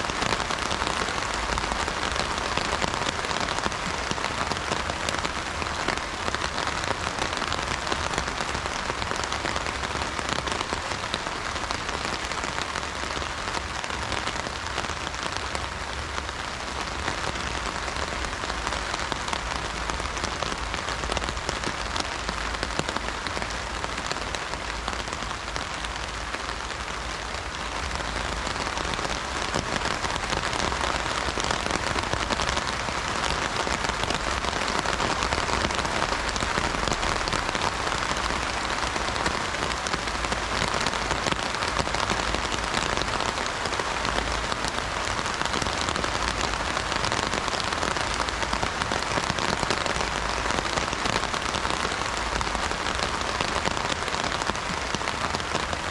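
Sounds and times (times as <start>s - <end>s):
heavy rain on umbrella: 0.0s - 55.9s.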